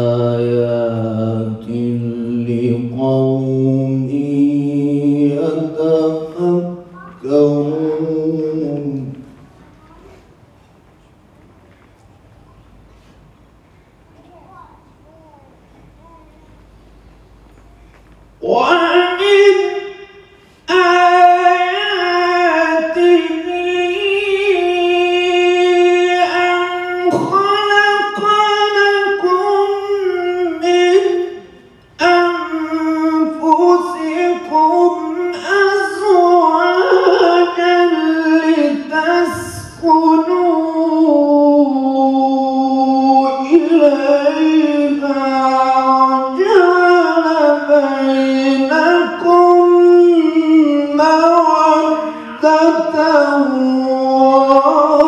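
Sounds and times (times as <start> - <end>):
man chanting into microphone: 0.0 - 9.5, 18.4 - 55.0.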